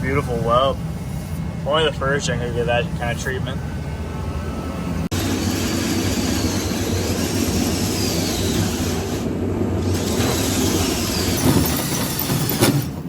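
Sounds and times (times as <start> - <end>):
faint whines: 0.0 - 13.0
machine humming and hissing: 0.0 - 13.0.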